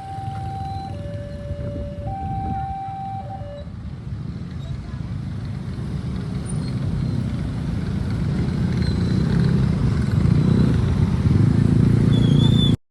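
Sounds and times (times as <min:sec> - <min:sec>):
low vehicle rumble: 0:00.0 - 0:12.8.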